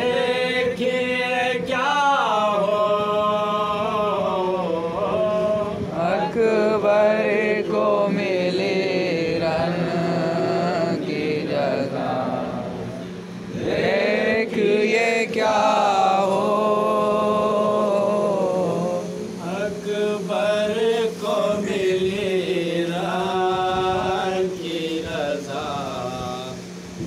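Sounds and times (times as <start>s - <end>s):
lead voice chanting verses: 0.0s - 26.7s
men chanting a lament: 0.0s - 26.8s.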